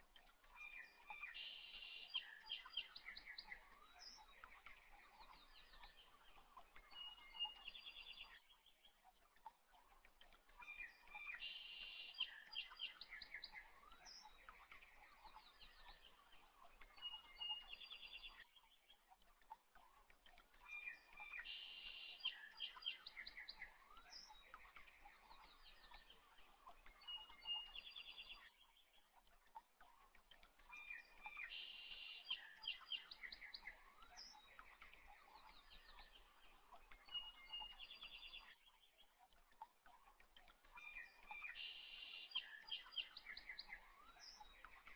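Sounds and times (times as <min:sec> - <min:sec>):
faint birds chirping and trilling: 0:00.0 - 0:44.9.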